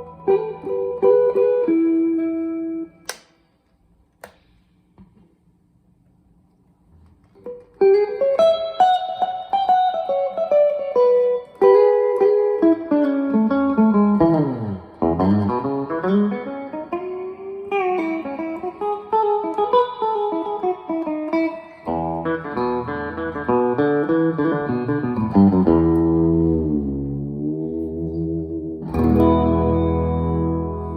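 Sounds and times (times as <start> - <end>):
electric guitar: 0.0 - 3.3, 6.9 - 30.9.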